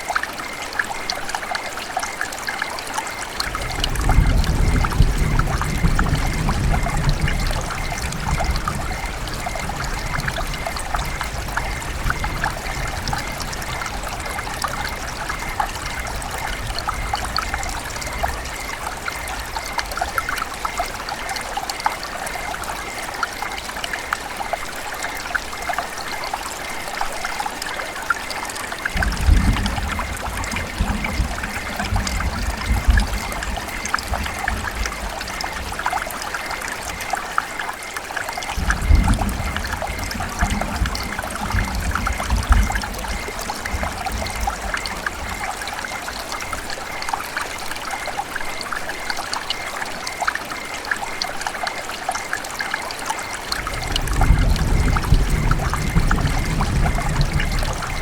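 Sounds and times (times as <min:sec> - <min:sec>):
river water babbling: 0:00.0 - 0:56.8.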